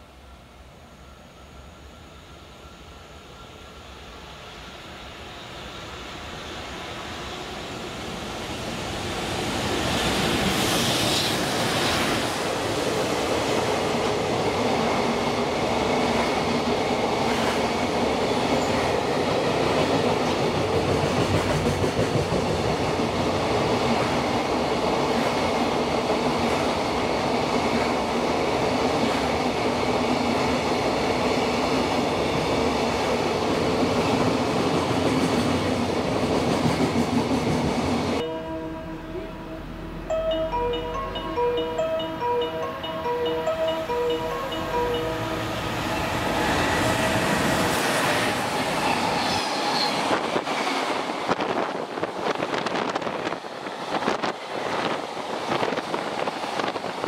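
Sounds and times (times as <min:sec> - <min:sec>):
freight train passing at speed: 0:00.0 - 0:57.0.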